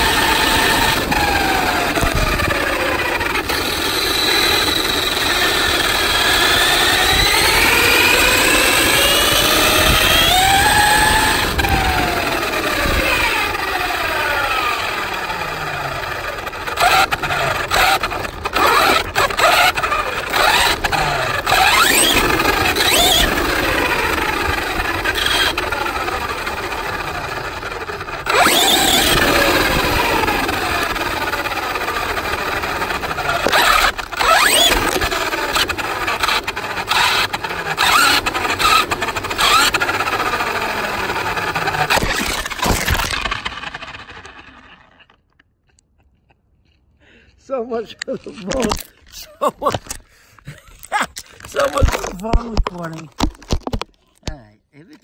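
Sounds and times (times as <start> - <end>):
remote-control car motor whining: 0.0 - 45.1
tyre and road noise: 0.0 - 45.4.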